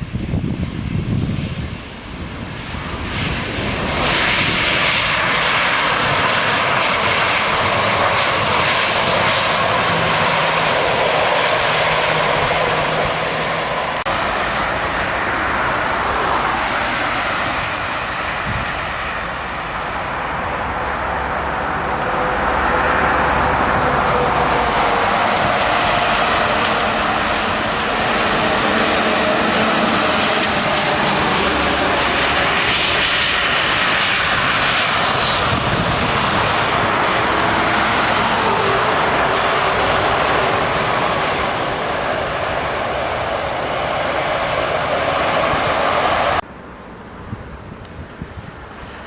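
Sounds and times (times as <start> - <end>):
airliner engines running: 0.0 - 49.0.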